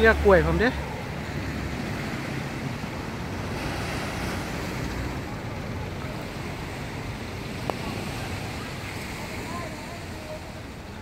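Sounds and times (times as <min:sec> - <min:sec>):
small waves washing onto sand: 0:00.0 - 0:11.0.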